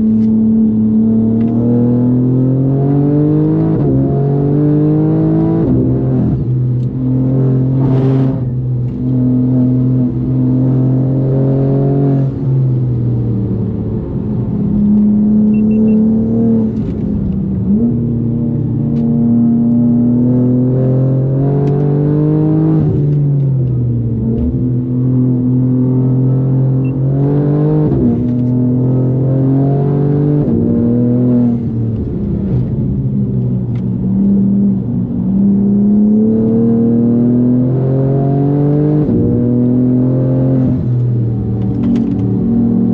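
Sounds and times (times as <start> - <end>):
car engine running hard: 0.0 - 42.9.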